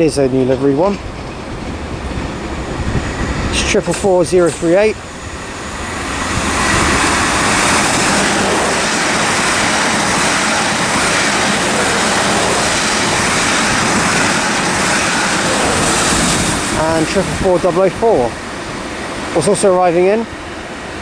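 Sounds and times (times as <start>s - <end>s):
train wheels rushing on rail: 0.0s - 21.0s.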